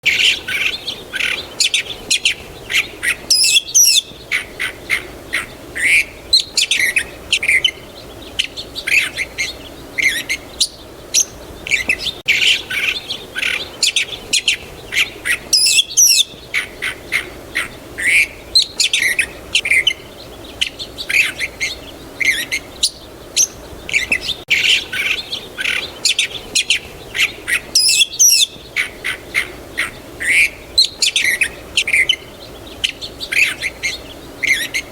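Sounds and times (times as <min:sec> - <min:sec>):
birds chirping and twittering: 0:00.0 - 0:34.9
faint background hiss: 0:00.0 - 0:34.9.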